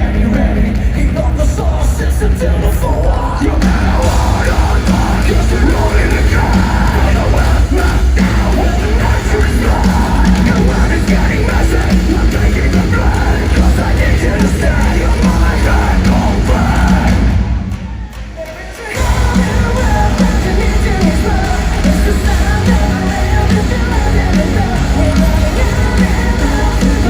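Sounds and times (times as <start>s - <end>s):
live metal band with dance beats: 0.0s - 27.0s.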